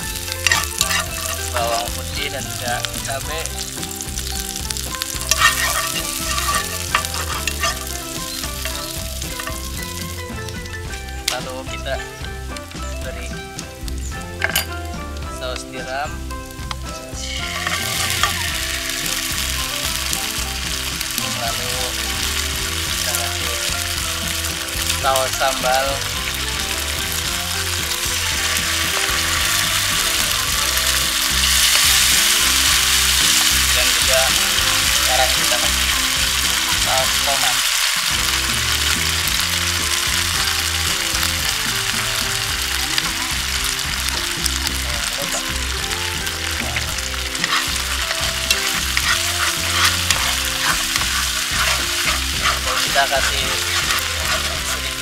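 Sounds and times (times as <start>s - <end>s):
utensil scraping a pan: 0.0s - 11.8s, 16.7s - 55.0s
garlic sizzling in oil: 0.0s - 55.0s.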